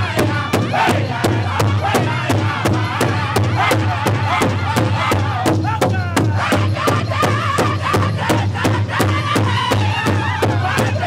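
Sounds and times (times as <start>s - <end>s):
group singing: 0.0s - 11.0s
large hide drum beating: 0.0s - 11.0s.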